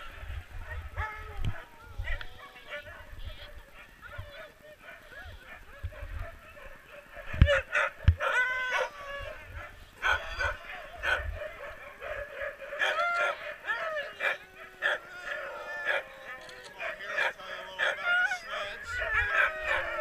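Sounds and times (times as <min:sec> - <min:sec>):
sled dogs yipping and barking: 0:00.0 - 0:20.0.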